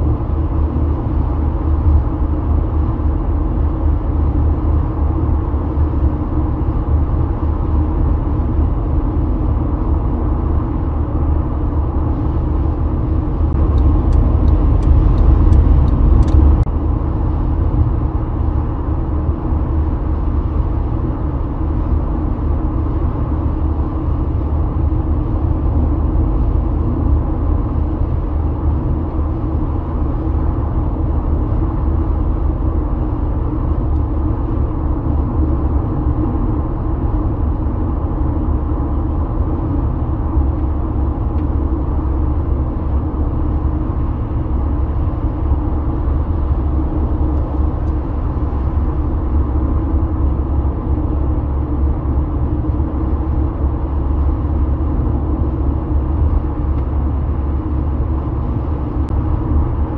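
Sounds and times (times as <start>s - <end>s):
road and tyre rumble inside car: 0.0s - 59.9s.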